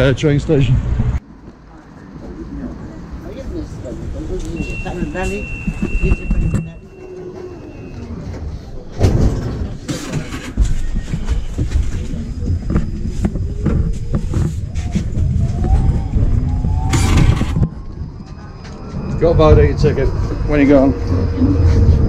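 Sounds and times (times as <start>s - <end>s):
tram rumble and rattling knocks: 3.3s - 22.0s.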